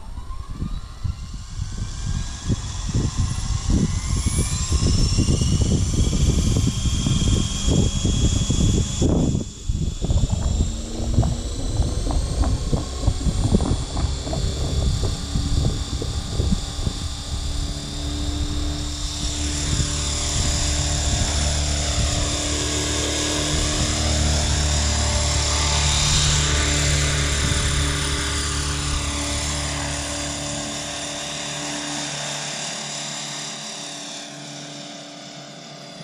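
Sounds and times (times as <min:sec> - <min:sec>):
wind buffeting microphone: 0:00.0 - 0:31.6
model helicopter whining: 0:00.0 - 0:36.0.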